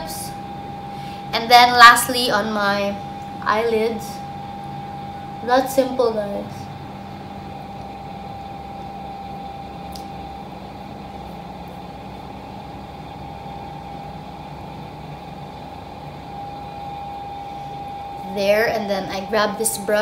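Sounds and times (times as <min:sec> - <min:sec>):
constant high whine: 0:00.0 - 0:20.0
low drone: 0:00.0 - 0:20.0.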